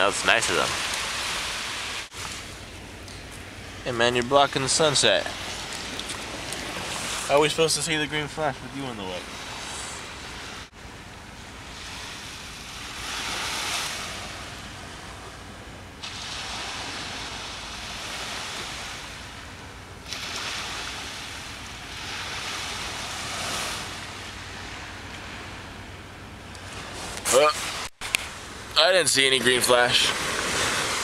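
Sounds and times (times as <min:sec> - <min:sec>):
surf breaking on a beach: 0:00.0 - 0:02.6, 0:03.8 - 0:10.8, 0:11.4 - 0:15.4, 0:16.0 - 0:25.6, 0:28.8 - 0:31.0.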